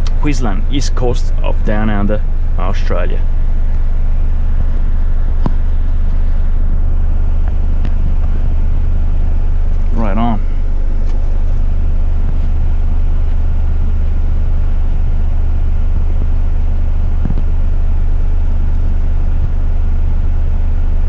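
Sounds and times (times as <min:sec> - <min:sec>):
diesel truck engine droning: 0:00.0 - 0:21.0.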